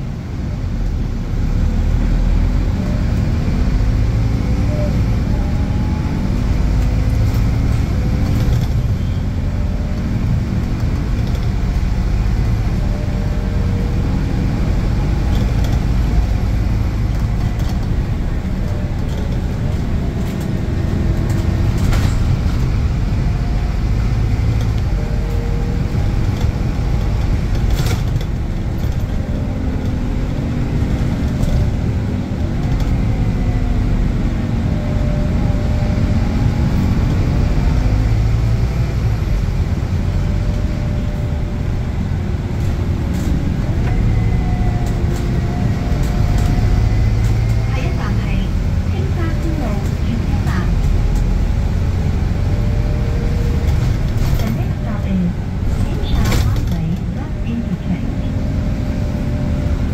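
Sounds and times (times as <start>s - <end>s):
bus diesel engine under way: 0.0s - 59.9s.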